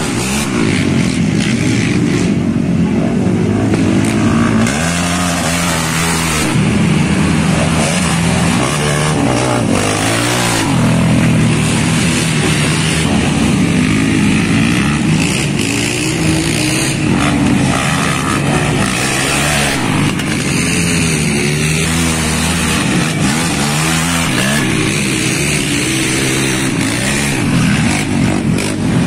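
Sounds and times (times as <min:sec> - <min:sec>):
quad engines revving: 0:00.0 - 0:29.0.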